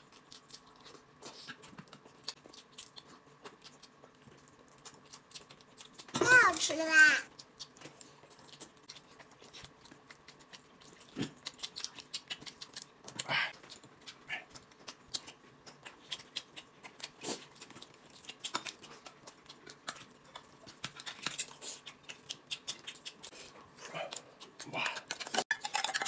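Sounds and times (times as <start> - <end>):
wet chewing and lip-smacking: 0.0 - 26.0.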